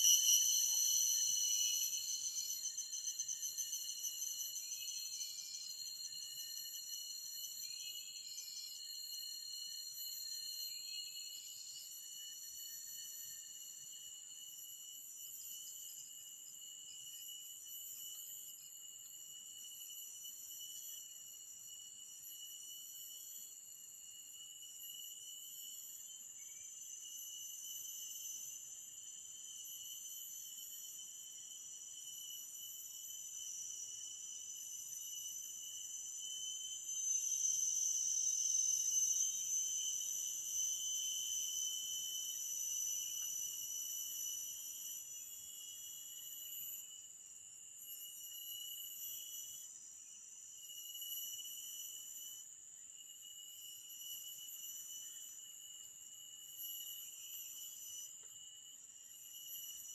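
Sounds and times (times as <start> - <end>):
insects trilling chorus: 0.0 - 59.9.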